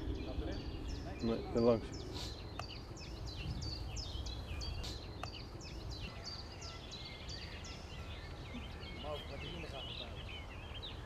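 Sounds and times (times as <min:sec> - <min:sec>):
songbirds singing high notes: 0:00.0 - 0:11.0.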